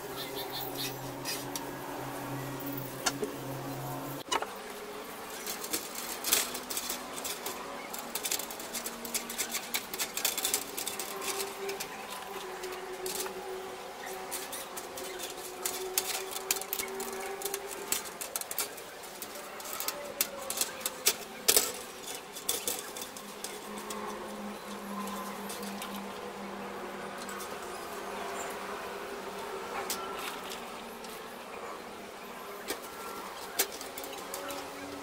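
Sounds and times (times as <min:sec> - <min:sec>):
wire mesh being scrubbed: 0:00.1 - 0:28.2.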